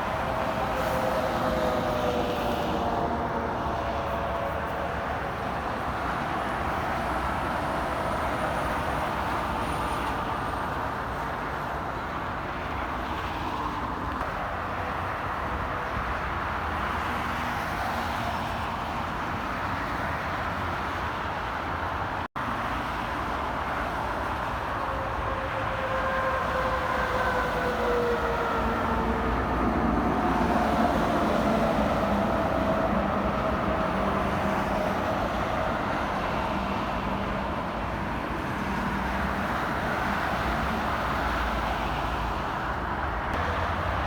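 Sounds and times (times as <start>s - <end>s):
highway traffic roar: 0.0s - 44.0s.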